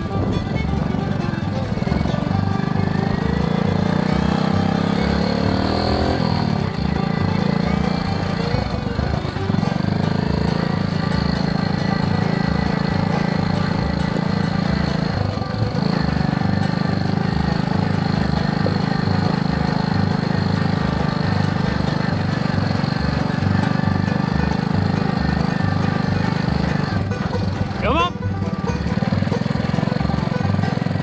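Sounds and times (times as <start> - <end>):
single-cylinder engine running: 0.0 - 31.0.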